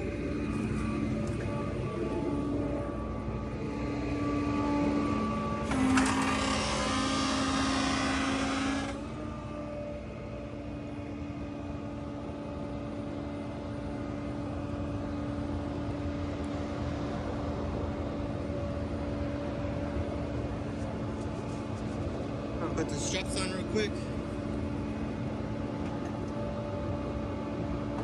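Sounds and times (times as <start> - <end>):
hydraulic mechanical hum: 0.0 - 28.0.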